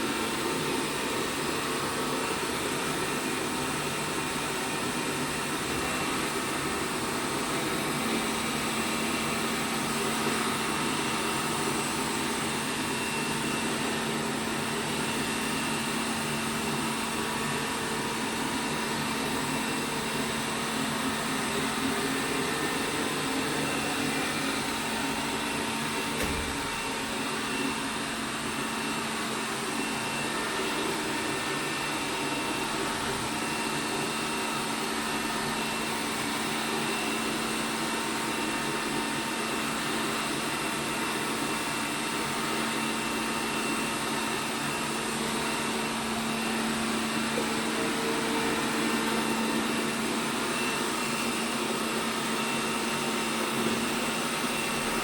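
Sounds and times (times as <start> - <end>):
robot vacuum cleaner running: 0.0 - 55.0.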